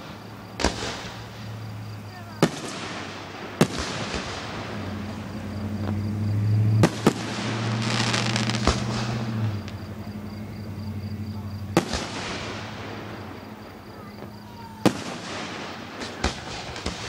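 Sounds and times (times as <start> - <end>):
crackling hiss: 0.0 - 17.0
fireworks bangs: 0.0 - 17.0.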